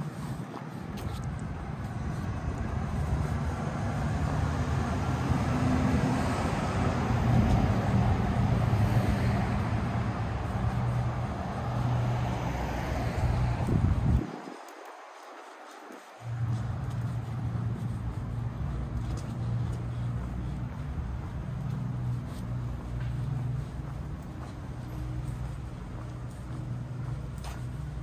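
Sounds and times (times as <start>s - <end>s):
street noise: 0.0s - 28.0s.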